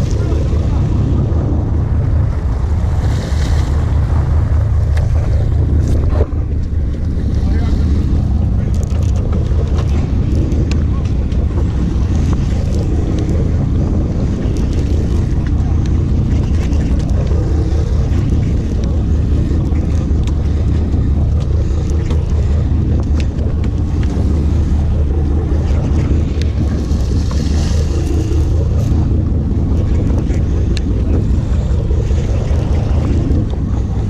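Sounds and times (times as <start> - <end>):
boat engine droning: 0.0 - 34.0
wind buffeting microphone: 0.0 - 34.0.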